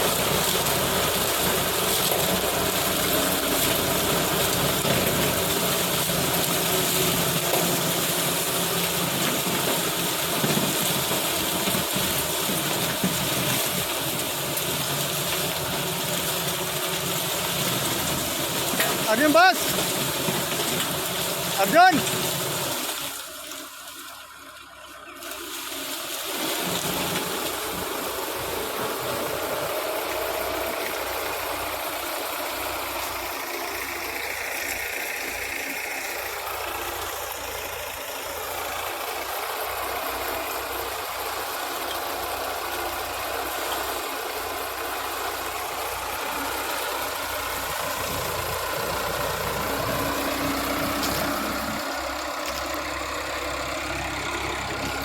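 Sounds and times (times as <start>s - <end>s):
harvester engine running: 0.0s - 55.0s.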